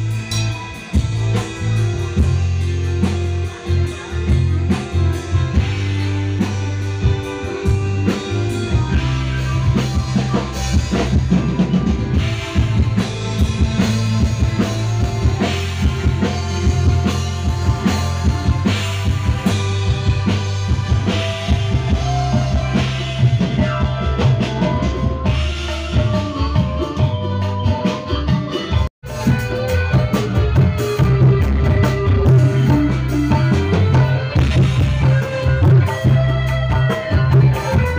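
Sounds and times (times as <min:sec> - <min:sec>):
drum kit: 0:00.0 - 0:37.9
heavy bass: 0:00.0 - 0:37.9
live band music: 0:00.0 - 0:37.9.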